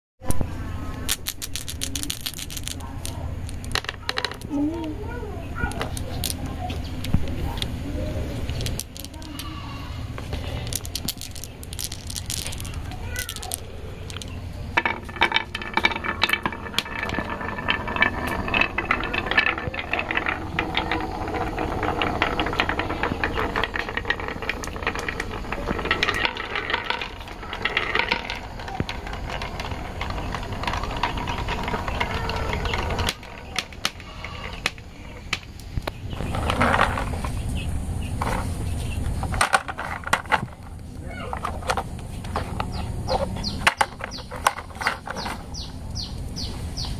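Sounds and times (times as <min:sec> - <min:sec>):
marbles clattering down tracks: 0:00.9 - 0:46.9.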